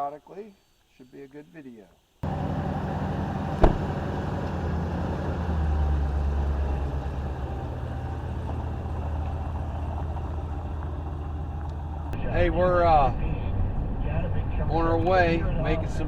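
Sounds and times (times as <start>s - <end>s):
pickup truck engine and road drone: 2.2s - 16.0s.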